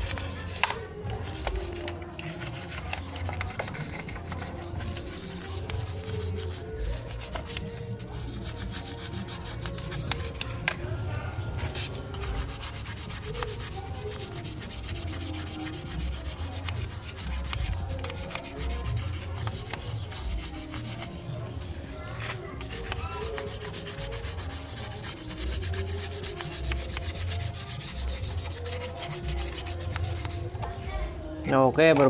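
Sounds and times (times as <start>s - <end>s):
toothbrush scrubbing metal casing: 0.0s - 10.8s, 11.8s - 21.3s, 22.6s - 30.5s.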